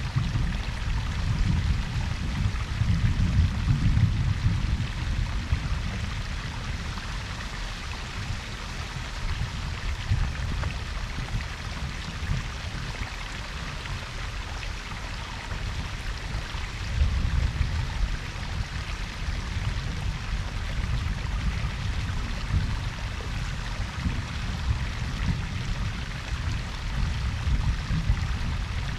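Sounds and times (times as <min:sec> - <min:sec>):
deep water rumble: 0:00.0 - 0:28.9
water splashing and trickling: 0:00.0 - 0:28.9.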